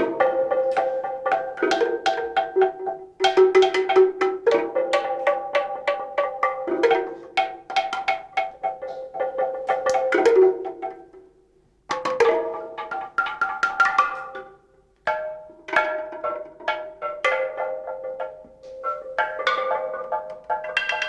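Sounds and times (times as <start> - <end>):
pitched percussion taps: 0.0 - 11.2, 11.9 - 21.0.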